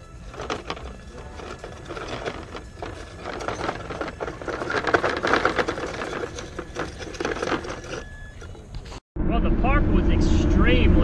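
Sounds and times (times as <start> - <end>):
toy truck motor whine: 0.0 - 9.0
tyres rattling on gravel: 0.0 - 9.0.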